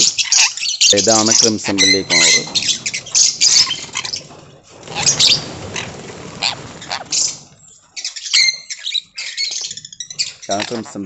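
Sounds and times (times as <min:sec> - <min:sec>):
parrots squawking: 0:00.0 - 0:11.0.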